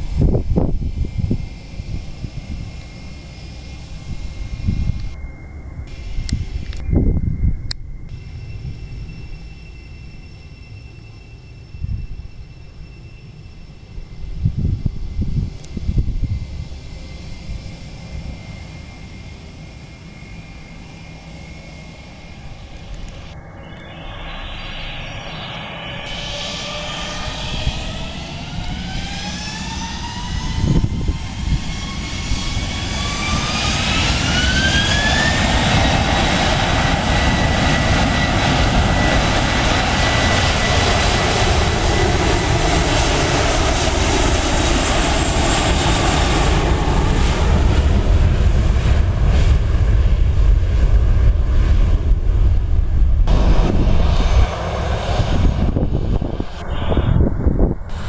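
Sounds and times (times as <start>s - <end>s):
jet engine whine: 0.0s - 58.0s
low jet engine rumble: 0.0s - 58.0s.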